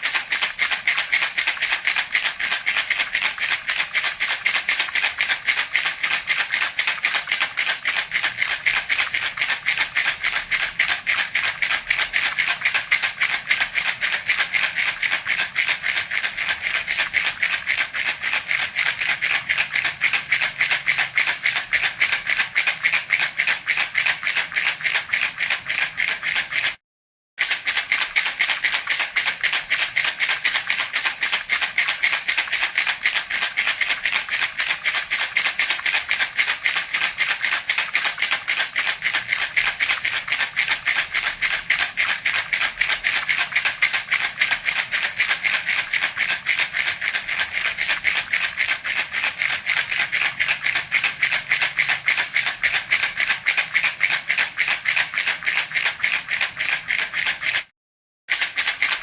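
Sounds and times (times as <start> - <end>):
baby rattle shaken: 0.0 - 26.8, 27.4 - 57.7, 58.3 - 59.0.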